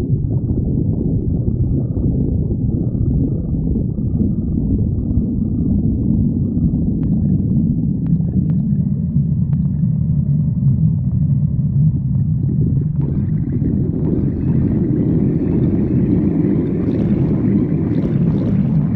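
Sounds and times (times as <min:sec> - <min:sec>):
stomach growling: 0:00.0 - 0:18.9.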